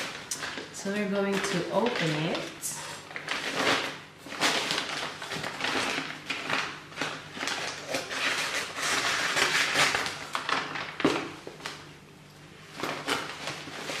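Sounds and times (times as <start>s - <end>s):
plastic packaging crinkling: 0.0s - 11.9s, 12.6s - 14.0s.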